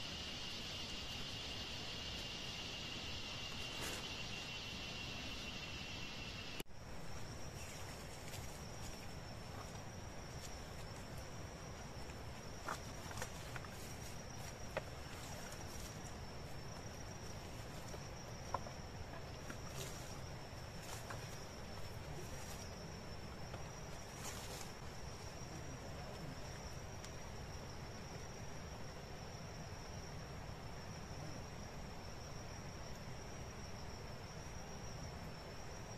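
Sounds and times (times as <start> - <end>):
high-pitched insect call: 0.0 - 35.9
quiet forest ambience: 0.0 - 35.9.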